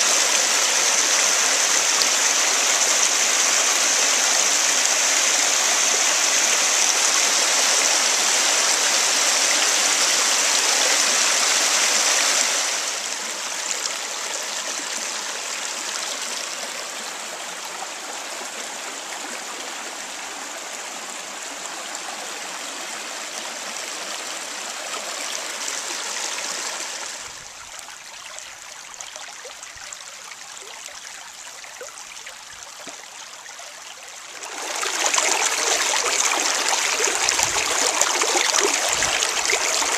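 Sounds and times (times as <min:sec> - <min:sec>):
creek water rippling over rocks: 0:00.0 - 0:39.9.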